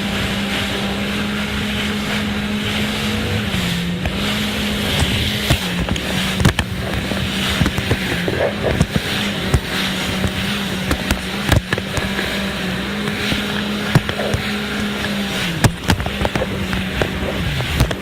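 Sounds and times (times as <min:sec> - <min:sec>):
jet ski engine running: 0:00.0 - 0:18.0.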